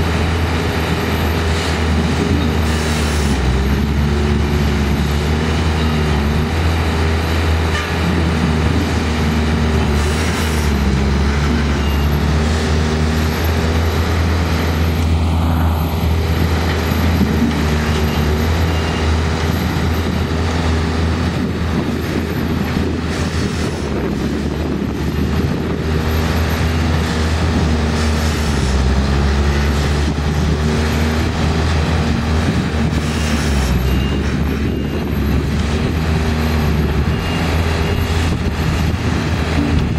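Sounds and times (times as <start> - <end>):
machine engines humming: 0.0 - 39.9.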